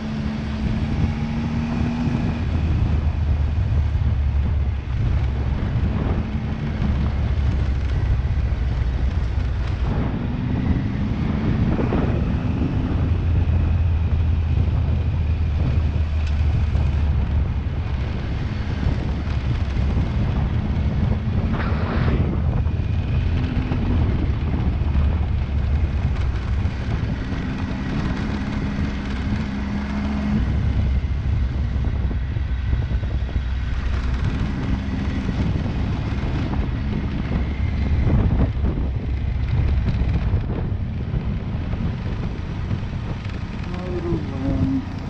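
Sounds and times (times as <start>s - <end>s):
motorcycle engine running: 0.0s - 45.0s
wind noise on microphone: 0.0s - 45.0s.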